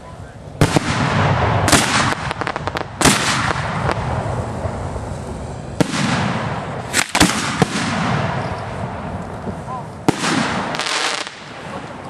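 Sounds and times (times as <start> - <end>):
fireworks crackling pops: 0.0 - 12.0
fireworks bangs with rumbling echo: 0.6 - 12.0.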